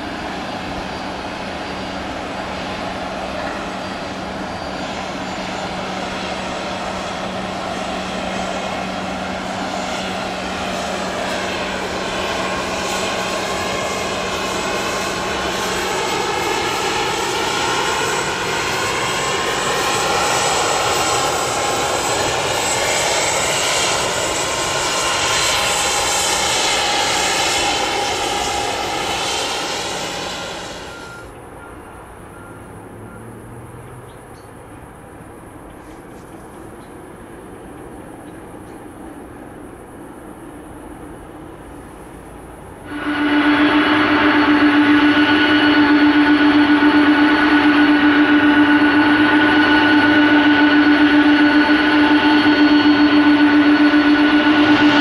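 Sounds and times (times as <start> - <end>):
jet engines whining while taxiing: 0.0 - 55.0.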